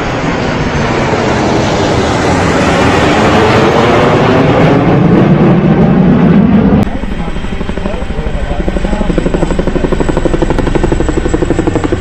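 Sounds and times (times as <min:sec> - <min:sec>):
fighter jet engines roaring: 0:00.0 - 0:12.0.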